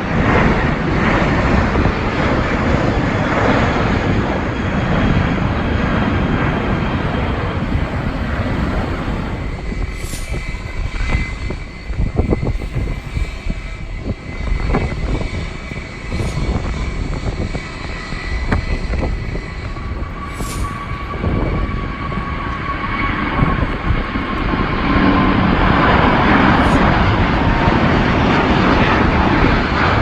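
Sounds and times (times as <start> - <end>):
jet engines whining: 0.0 - 30.0
wind buffeting microphone: 0.0 - 30.0.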